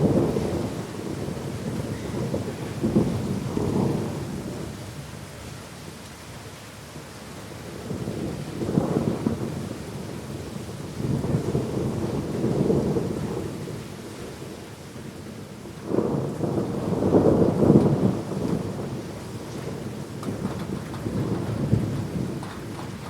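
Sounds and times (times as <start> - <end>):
thunder rumbling: 0.0 - 4.9, 7.6 - 14.6, 15.2 - 23.0
heavy rain: 0.0 - 23.0.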